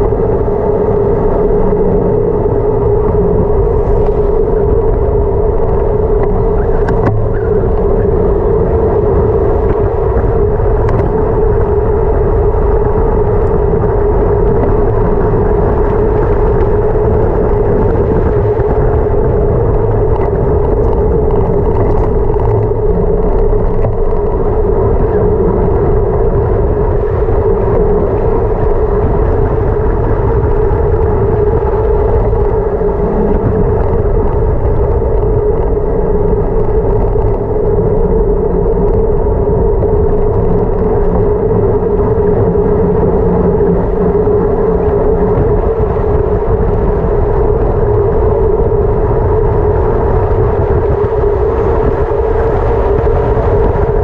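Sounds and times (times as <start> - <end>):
bicycle tyre noise on asphalt: 0.0 - 54.0
wind rushing over microphone: 0.0 - 54.0.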